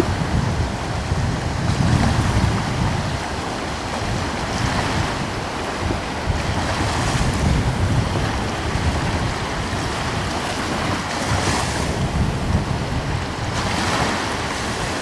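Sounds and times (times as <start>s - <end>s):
sea waves washing: 0.0s - 15.0s
wind rumbling on microphone: 0.0s - 15.0s.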